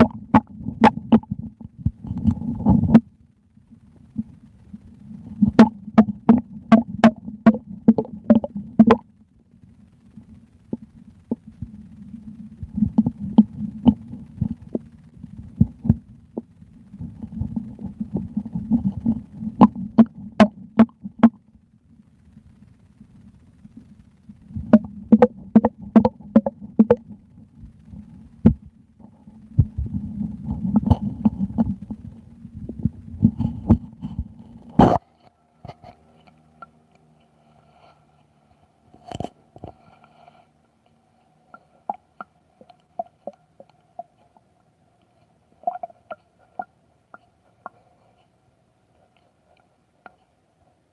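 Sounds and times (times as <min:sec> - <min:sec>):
stomach gurgling and sloshing: 0:00.0 - 0:09.2, 0:10.0 - 0:21.6, 0:22.4 - 0:36.8, 0:41.0 - 0:48.2.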